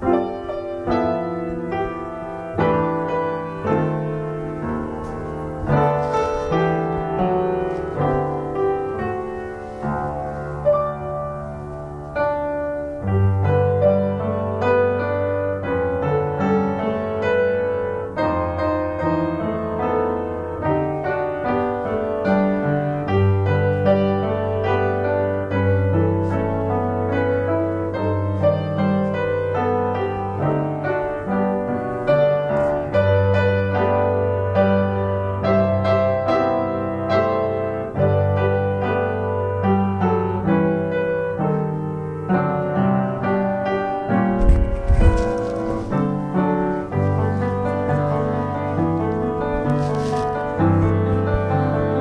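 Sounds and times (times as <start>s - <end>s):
piano music: 0.0s - 52.0s.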